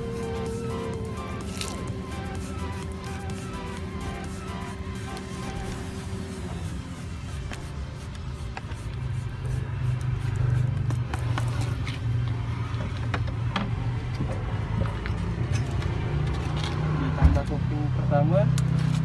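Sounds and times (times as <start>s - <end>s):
low motor hum: 0.0s - 17.6s.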